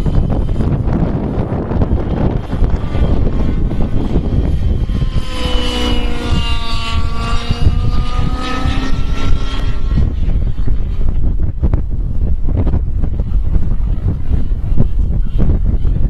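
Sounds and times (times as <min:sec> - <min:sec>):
model helicopter rotor and motor whine: 0:00.0 - 0:16.0
wind rumbling on microphone: 0:00.0 - 0:16.0.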